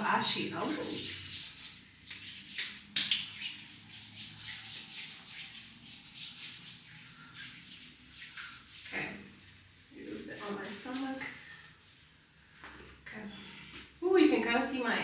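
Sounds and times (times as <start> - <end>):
hands rubbing lotion on skin: 0.2 - 13.0.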